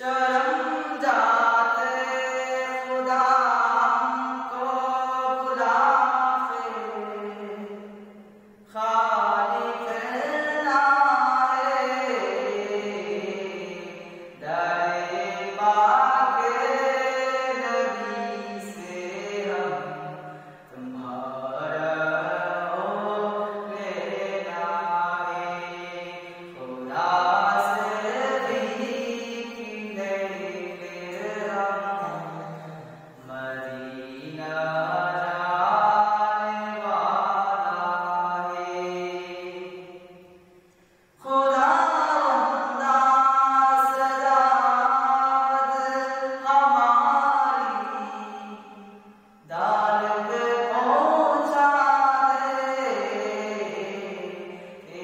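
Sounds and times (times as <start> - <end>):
man singing devotional song: 0.0 - 40.4, 41.2 - 55.0.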